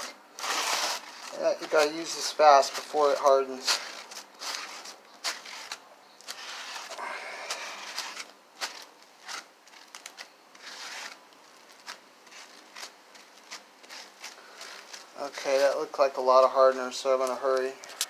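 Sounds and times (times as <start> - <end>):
brush dabbing and scraping: 0.0 - 17.8.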